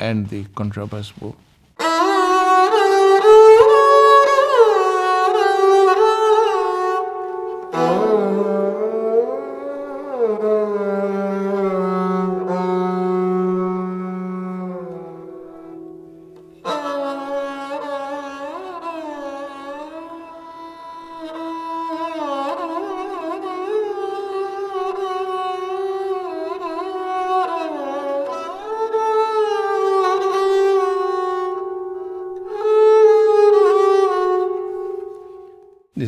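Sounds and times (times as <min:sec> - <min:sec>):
bowed sarangi melody: 0:01.6 - 0:35.9.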